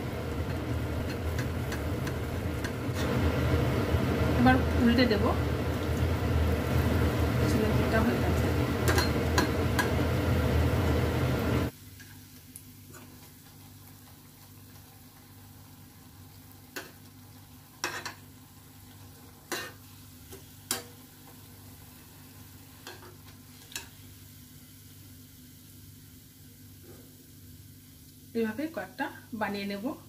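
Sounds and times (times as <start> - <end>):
batter sizzling in oil: 0.0 - 30.0.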